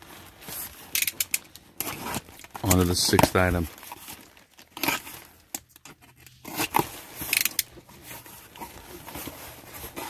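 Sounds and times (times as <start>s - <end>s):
packaging crinkling and tearing: 0.0s - 10.0s.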